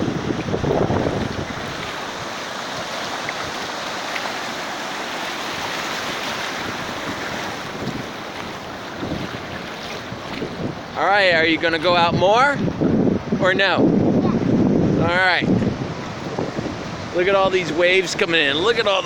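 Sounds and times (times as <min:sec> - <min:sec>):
wind buffeting microphone: 0:00.0 - 0:04.6, 0:05.2 - 0:19.0
waves breaking on a beach: 0:00.0 - 0:19.0.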